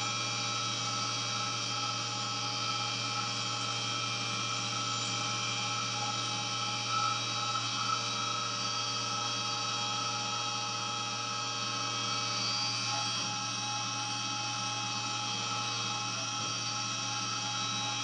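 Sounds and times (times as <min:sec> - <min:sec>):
milling machine spindle whine: 0:00.0 - 0:18.0.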